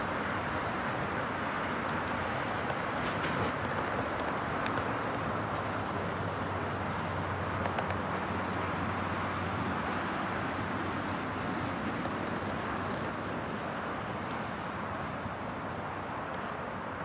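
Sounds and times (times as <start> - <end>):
distant traffic hiss: 0.0 - 17.0.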